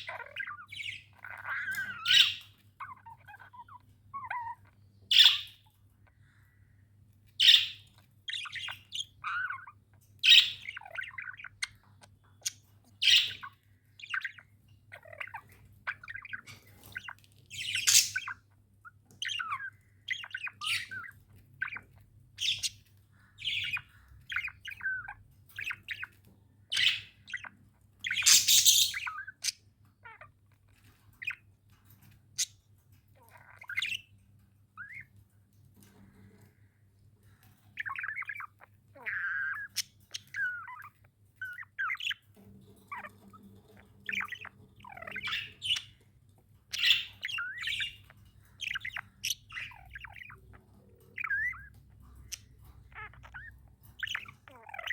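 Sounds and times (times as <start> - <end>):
budgerigars chirping and squawking: 0.0 - 54.9.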